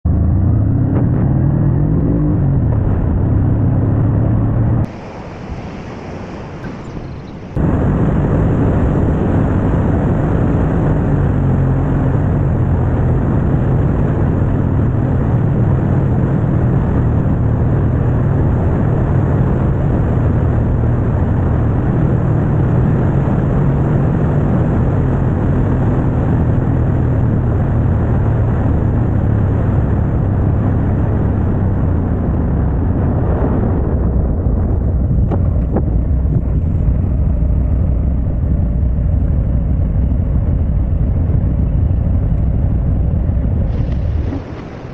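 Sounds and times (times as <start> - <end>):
road and wind noise: 0.0 - 44.9
motorcycle engine running: 6.6 - 44.9.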